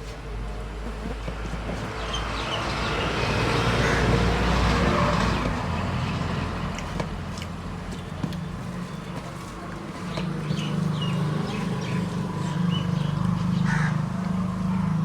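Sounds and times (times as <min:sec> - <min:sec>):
motor vehicle passing by: 0:00.6 - 0:15.0.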